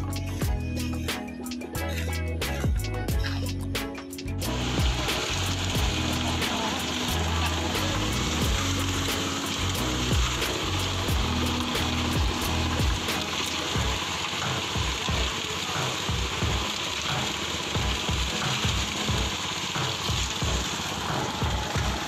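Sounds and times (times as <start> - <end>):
music with bass beat: 0.0 - 22.0
steady hiss: 3.5 - 22.0.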